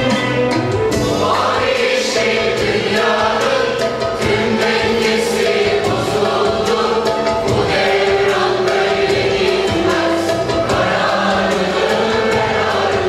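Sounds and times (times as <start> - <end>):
plucked string instruments: 0.0 - 13.0
mixed choir singing in unison: 0.9 - 13.0.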